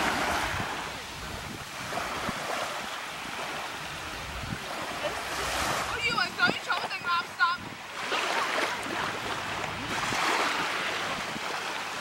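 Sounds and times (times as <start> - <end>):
small waves washing: 0.0 - 12.0
wind buffeting microphone: 0.0 - 12.0.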